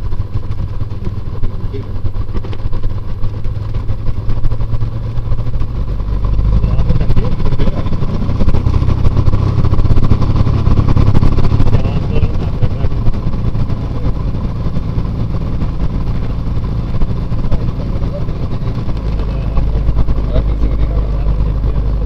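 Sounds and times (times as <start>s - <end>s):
aircraft engine low drone: 0.0s - 22.0s.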